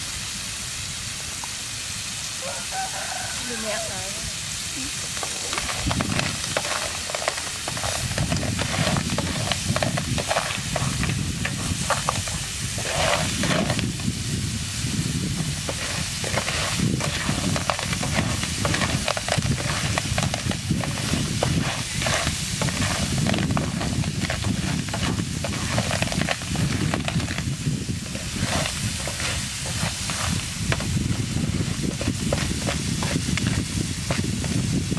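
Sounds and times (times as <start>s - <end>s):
steady sizzle: 0.0s - 34.9s.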